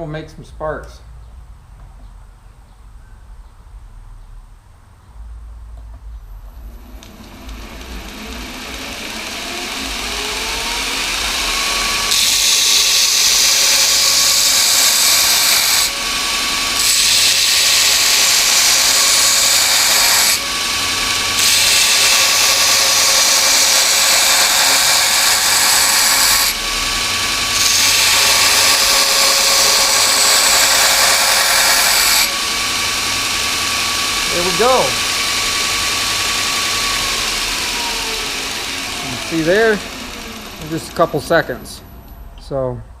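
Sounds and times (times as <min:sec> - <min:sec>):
harsh metal grinding: 0:06.4 - 0:42.6
belt grinder motor running: 0:06.5 - 0:42.6.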